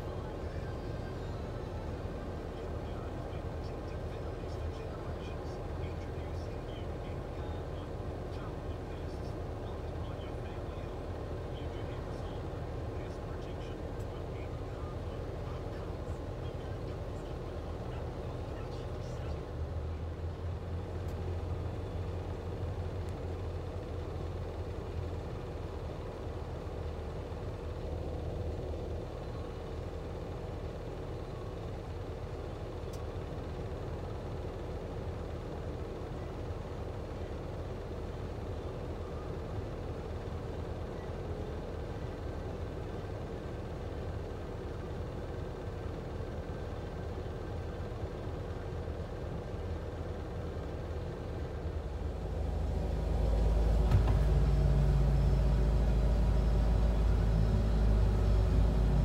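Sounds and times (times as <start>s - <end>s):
truck diesel engines rumbling: 0.0s - 59.0s.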